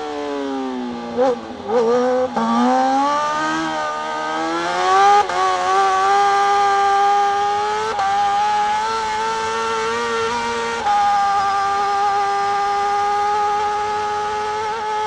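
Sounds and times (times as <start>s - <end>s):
racing motorcycle engine high revs: 0.0s - 15.0s.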